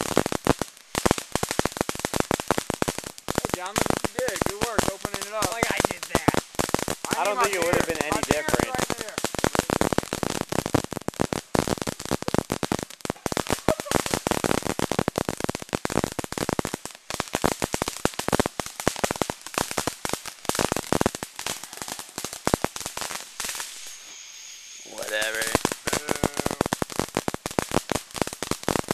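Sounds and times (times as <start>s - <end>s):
firecrackers going off: 0.0s - 28.9s.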